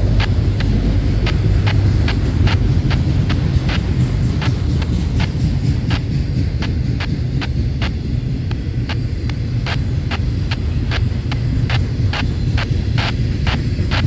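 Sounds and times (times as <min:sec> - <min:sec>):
steel wheels rumbling on rail: 0:00.0 - 0:14.0
wheels clicking over track: 0:00.0 - 0:14.0.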